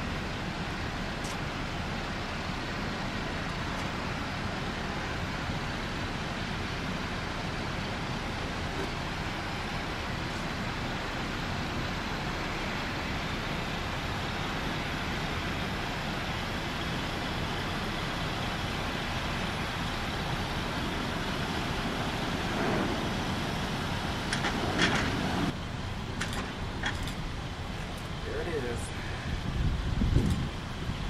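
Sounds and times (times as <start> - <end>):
jet engines roaring at takeoff: 0.0 - 31.0.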